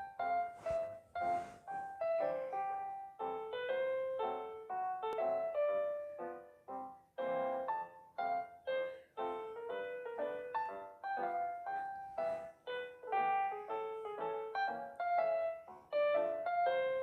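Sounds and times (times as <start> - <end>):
piano-like keyboard melody: 0.0 - 17.0.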